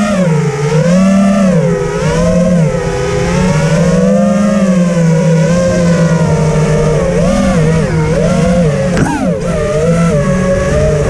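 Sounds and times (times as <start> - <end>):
quadcopter motors buzzing: 0.0 - 11.0.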